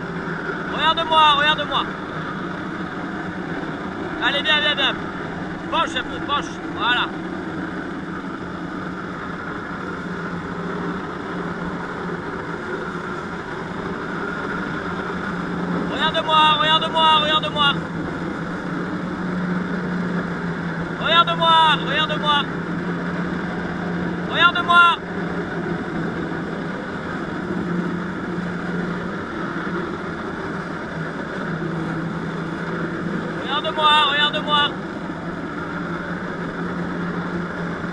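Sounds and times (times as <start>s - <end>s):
jet ski engine droning: 0.0s - 37.9s.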